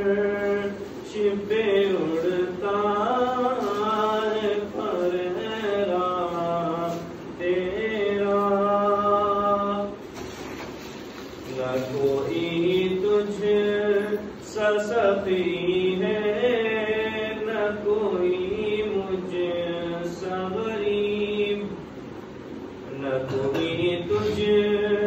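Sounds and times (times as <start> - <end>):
man singing unaccompanied: 0.0 - 10.0, 11.4 - 21.9, 22.8 - 25.0.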